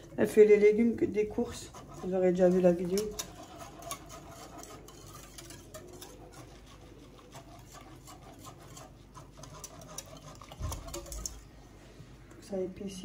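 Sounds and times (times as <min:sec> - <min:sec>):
whisk clicking and scraping pot: 0:00.0 - 0:11.6.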